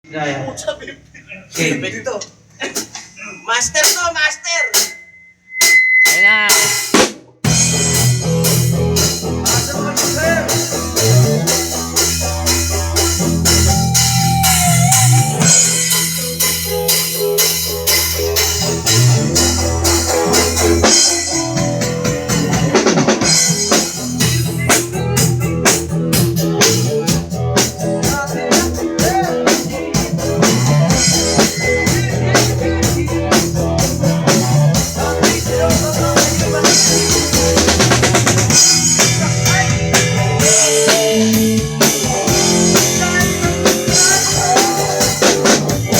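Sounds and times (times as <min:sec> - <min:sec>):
drum kit playing a beat: 0:01.5 - 0:45.9
guitar: 0:07.4 - 0:45.9.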